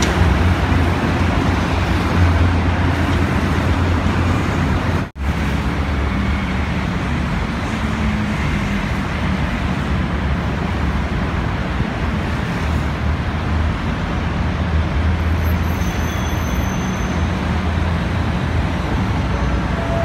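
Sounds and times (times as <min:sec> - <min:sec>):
diesel train engine drone: 0:00.0 - 0:15.4, 0:16.4 - 0:20.0
road traffic rumble: 0:00.0 - 0:20.0.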